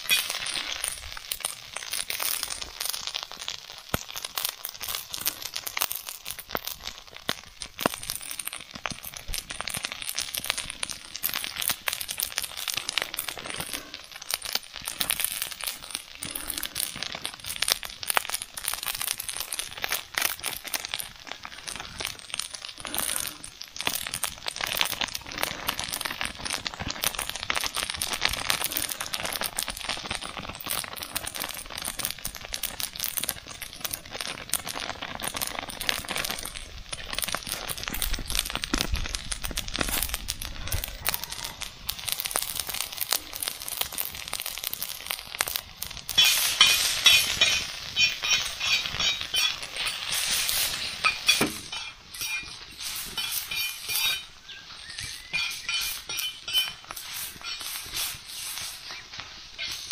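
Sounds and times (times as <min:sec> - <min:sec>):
rice sizzling in a hot pan: 0:00.0 - 0:59.9.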